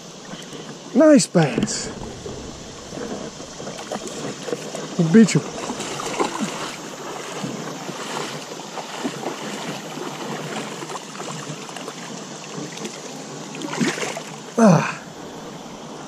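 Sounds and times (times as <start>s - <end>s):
river water rushing: 1.1s - 12.0s, 13.7s - 16.0s.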